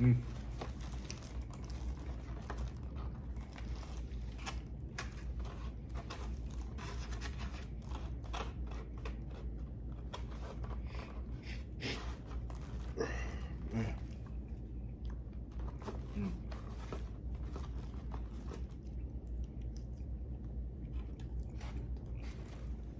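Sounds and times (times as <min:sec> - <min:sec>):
person chewing and crunching food: 0:00.0 - 0:10.0, 0:10.6 - 0:22.9.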